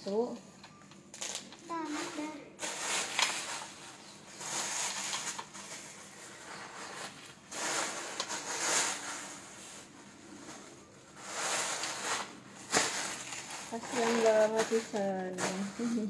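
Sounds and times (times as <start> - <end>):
rustling and handling noise: 0.0 - 16.0.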